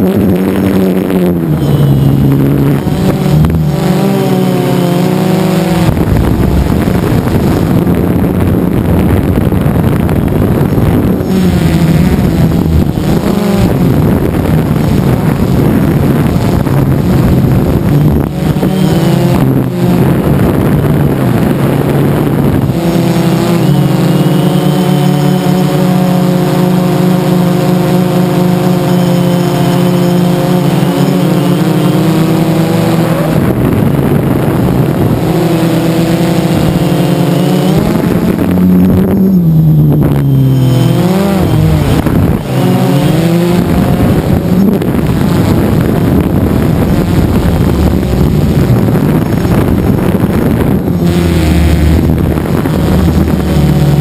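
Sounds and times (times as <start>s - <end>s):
drone motors humming: 0.0s - 54.0s
rushing noise: 0.0s - 54.0s.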